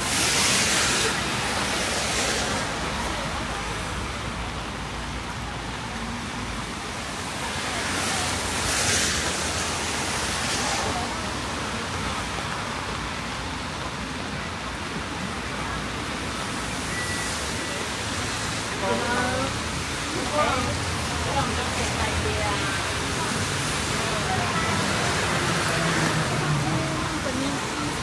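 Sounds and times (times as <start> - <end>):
steady rain: 0.0 - 28.0
tyres hissing on wet road: 0.0 - 28.0.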